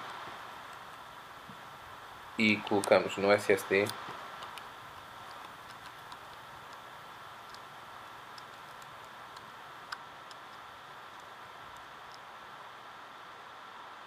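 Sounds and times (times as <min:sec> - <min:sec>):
faint steady hiss and hum: 0:00.0 - 0:14.0.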